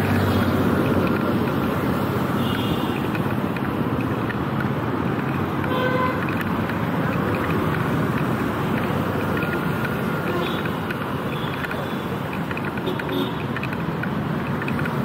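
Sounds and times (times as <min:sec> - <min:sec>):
vehicle engines passing: 0:00.0 - 0:15.0.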